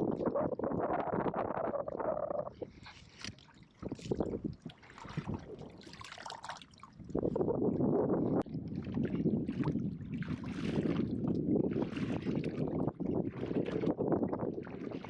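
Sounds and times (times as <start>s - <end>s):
water splashing against kayak: 0.0s - 15.0s
wind on microphone: 0.0s - 15.0s.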